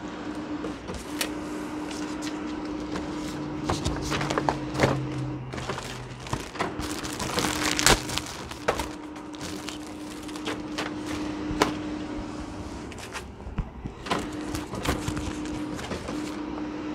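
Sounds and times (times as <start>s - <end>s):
steady low hum: 0.0s - 16.9s
paper rustling and shuffling: 0.6s - 16.5s.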